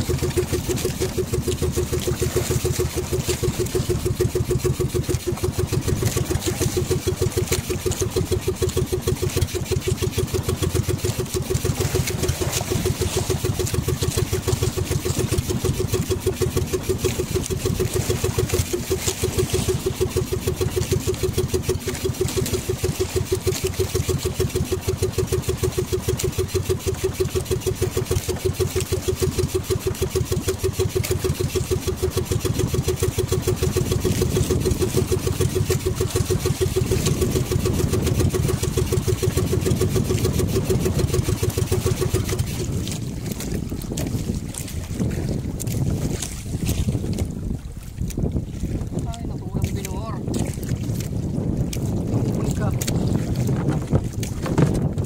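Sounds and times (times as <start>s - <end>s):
small boat engine puttering: 0.0s - 55.0s.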